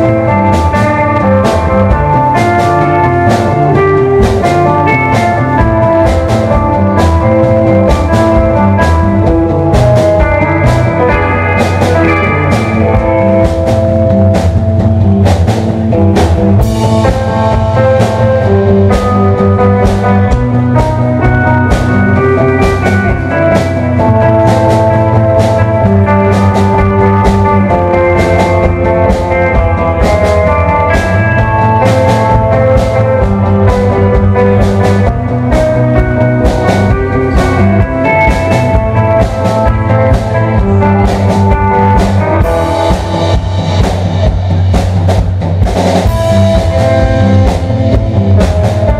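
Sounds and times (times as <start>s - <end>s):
drum beat: 0.0s - 48.9s
electric guitar: 0.0s - 48.9s.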